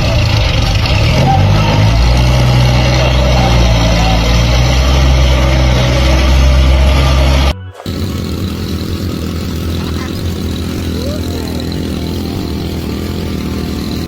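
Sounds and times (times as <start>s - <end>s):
faint voices: 0.0s - 8.5s, 9.1s - 13.9s
large engine running: 0.0s - 14.0s.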